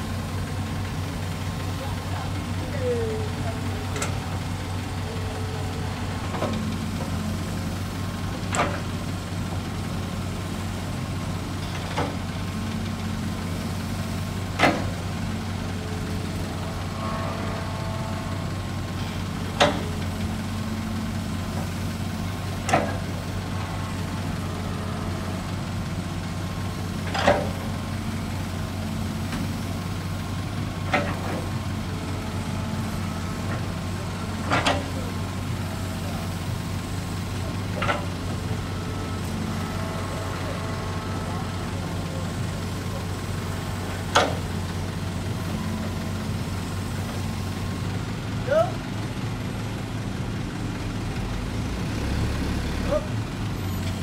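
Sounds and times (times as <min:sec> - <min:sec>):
excavator diesel engine droning: 0:00.0 - 0:54.0.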